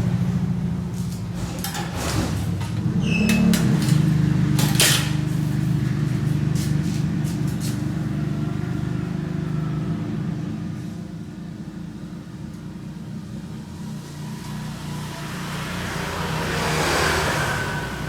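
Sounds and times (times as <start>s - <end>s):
low engine rumble: 0.0s - 16.4s.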